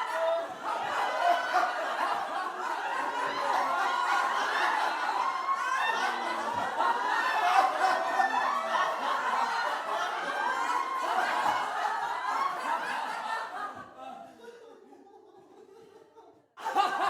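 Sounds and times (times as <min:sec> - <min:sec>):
group of people laughing: 0:00.0 - 0:17.0.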